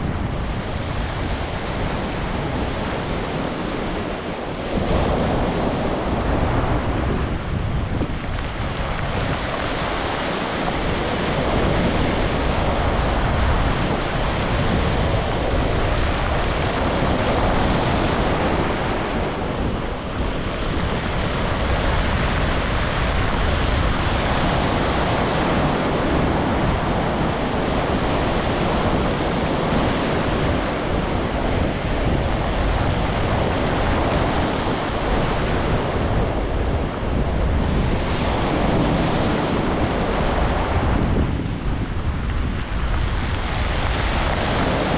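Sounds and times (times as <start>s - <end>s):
ocean surf washing onto beach: 0.0s - 44.9s
wind buffeting microphone: 0.0s - 44.9s.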